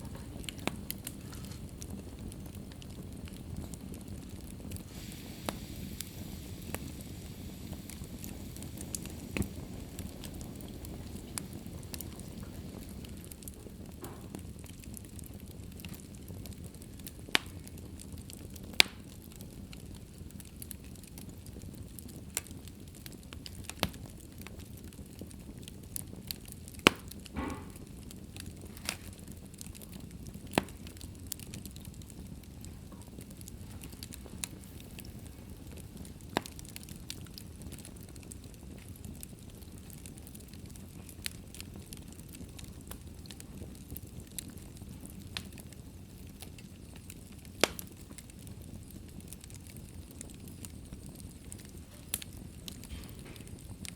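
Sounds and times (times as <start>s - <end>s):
fire flames rumbling: 0.0s - 53.9s
fire hissing: 0.0s - 53.9s
wood fire popping and crackling: 0.0s - 53.9s.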